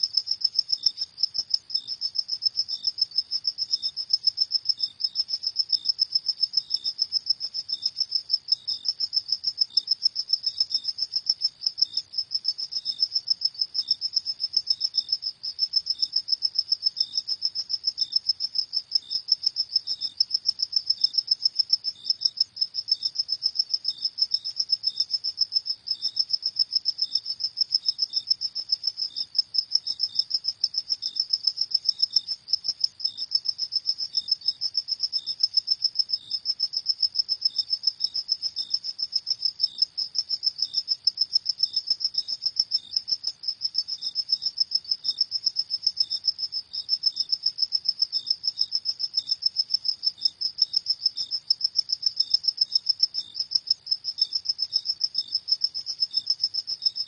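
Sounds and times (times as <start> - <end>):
fainter slower cricket chirp: 0.0 - 57.0.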